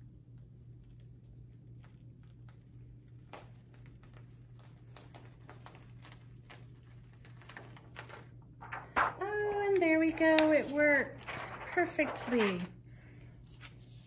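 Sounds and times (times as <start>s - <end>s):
plastic sheet peeling crackles: 0.5s - 14.0s.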